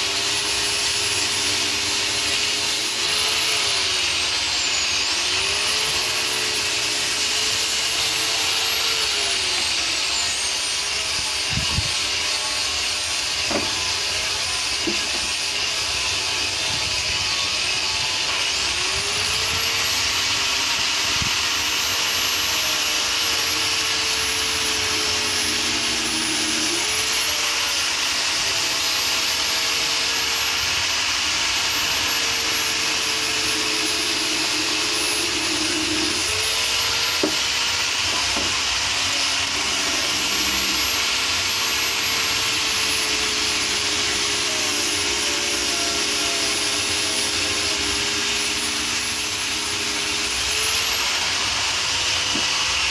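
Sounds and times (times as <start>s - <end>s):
power tool motor whining: 0.0s - 52.9s.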